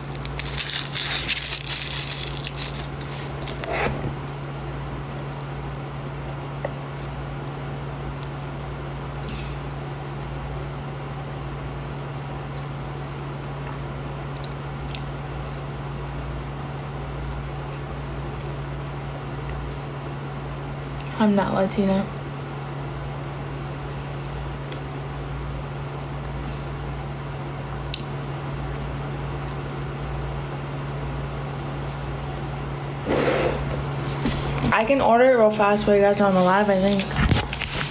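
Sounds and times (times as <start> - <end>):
fan humming with hiss: 0.0 - 37.9.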